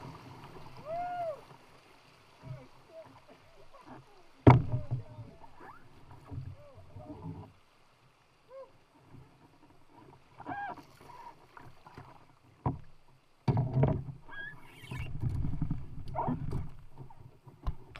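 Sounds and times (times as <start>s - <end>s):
paddle strokes in water: 0.0s - 17.9s
water splashing around hull: 0.0s - 17.9s.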